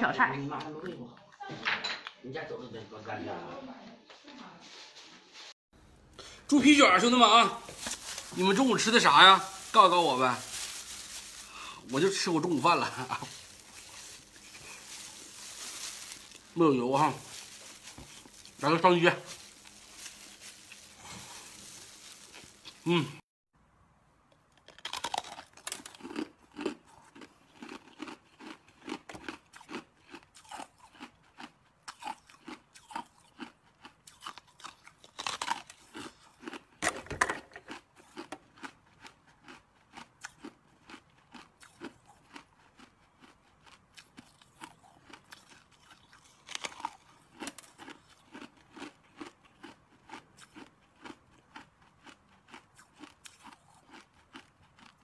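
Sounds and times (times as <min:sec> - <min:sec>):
person chewing hard crunchy stick: 0:06.2 - 0:23.2, 0:24.6 - 0:55.0.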